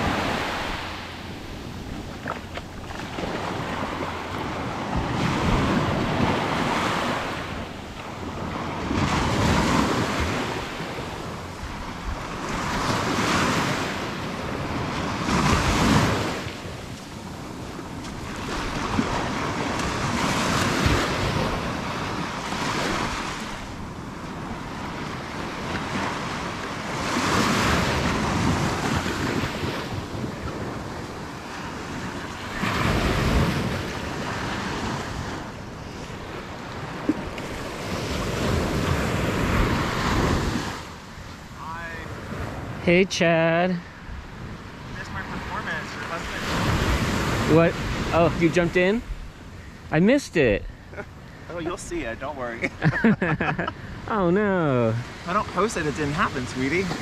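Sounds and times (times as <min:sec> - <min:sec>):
wind buffeting microphone: 0:00.0 - 0:42.9, 0:44.0 - 0:49.9
ocean surf breaking on beach: 0:00.0 - 0:57.0.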